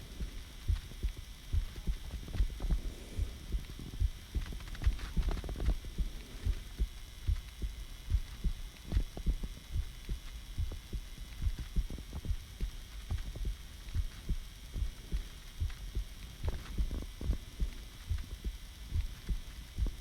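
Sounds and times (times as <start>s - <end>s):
heartbeat thumps: 0.0s - 20.0s.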